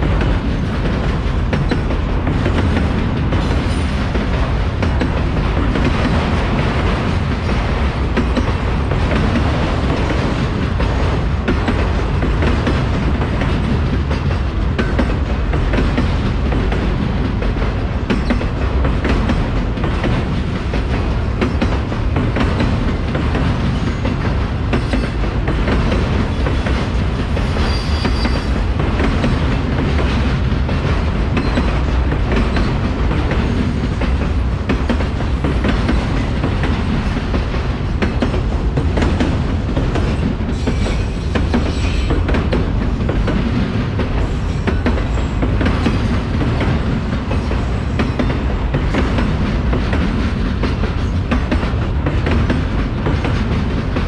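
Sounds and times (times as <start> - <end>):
train low rumble: 0.0 - 54.0
train wheels clicking over rail joints: 0.0 - 54.0.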